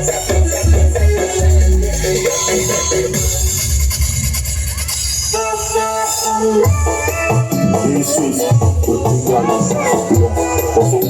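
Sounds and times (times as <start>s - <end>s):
loud music with heavy bass: 0.0s - 11.0s.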